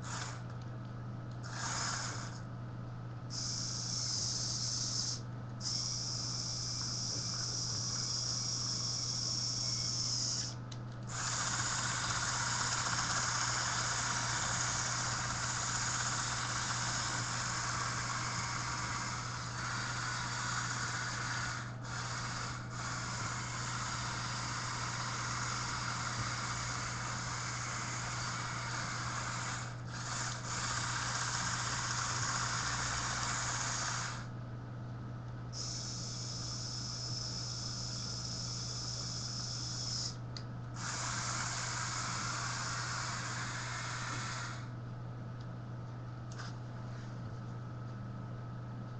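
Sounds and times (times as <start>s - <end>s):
toy electric motors whirring: 0.0s - 0.6s, 1.4s - 2.4s, 3.3s - 34.3s, 35.6s - 40.2s, 40.8s - 44.7s
steady low hum: 0.0s - 48.9s.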